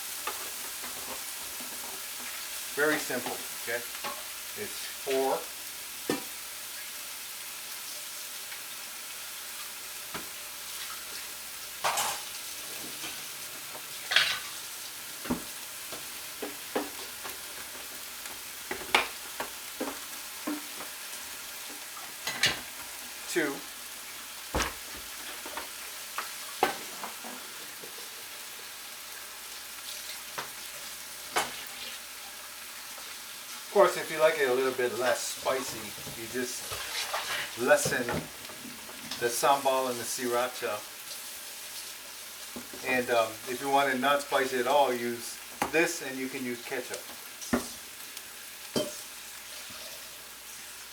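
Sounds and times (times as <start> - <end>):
food sizzling in a pan: 0.0 - 50.9.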